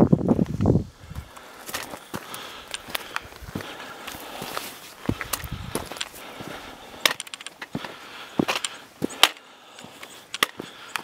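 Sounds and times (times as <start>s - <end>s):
boot footsteps on rock: 0.3s - 11.0s.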